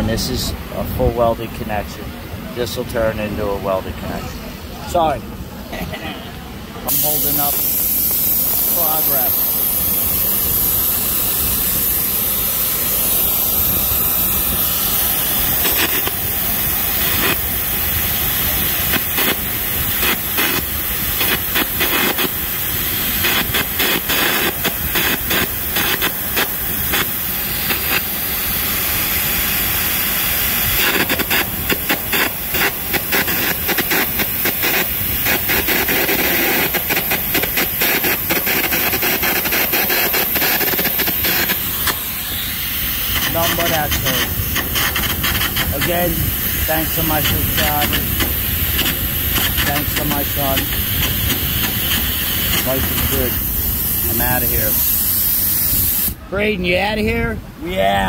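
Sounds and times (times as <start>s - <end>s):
arc crackling and popping: 6.9s - 56.2s
compressed air jet hissing: 6.9s - 56.2s.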